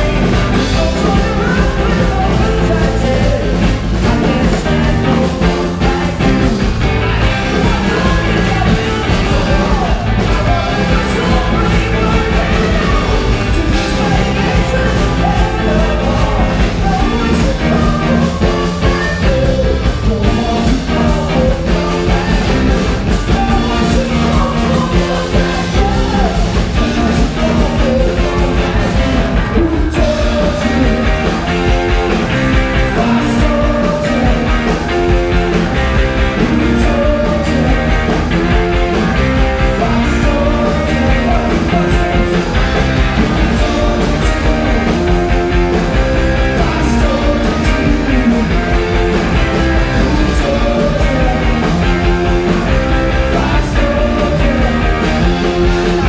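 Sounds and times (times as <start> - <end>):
live rock band with singing: 0.0 - 56.0.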